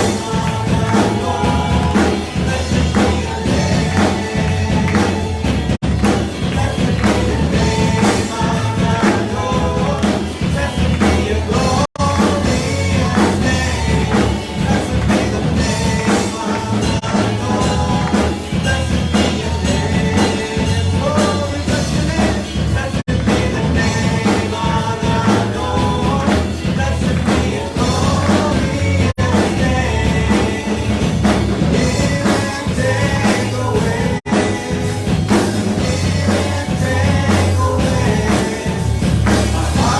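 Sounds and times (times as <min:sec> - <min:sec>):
drum kit: 0:00.0 - 0:39.9
person singing: 0:00.0 - 0:39.9
rock band music: 0:00.0 - 0:39.9.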